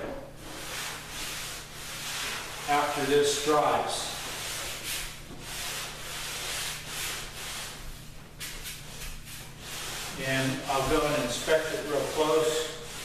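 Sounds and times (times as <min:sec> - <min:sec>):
sandpaper rasping over wood: 0:00.6 - 0:07.8, 0:08.4 - 0:13.0.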